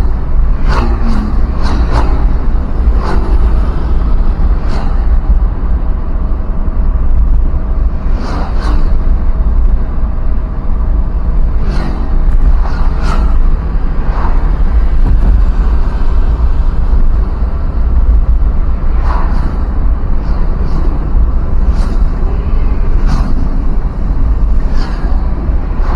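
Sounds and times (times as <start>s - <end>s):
vehicle driving rumble: 0.0s - 25.9s.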